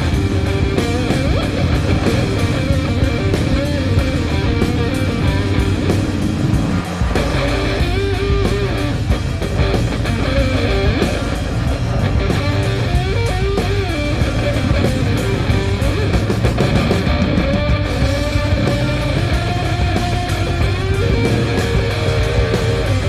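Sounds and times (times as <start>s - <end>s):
rock music with electric guitar: 0.0s - 23.0s.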